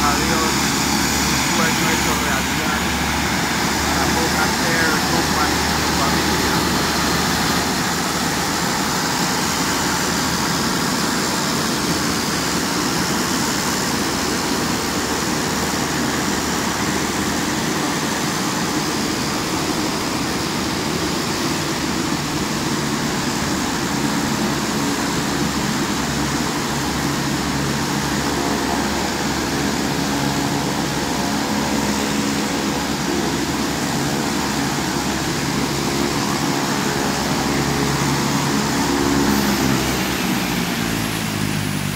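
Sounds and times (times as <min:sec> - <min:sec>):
mechanical drone with humming: 0:00.0 - 0:41.9.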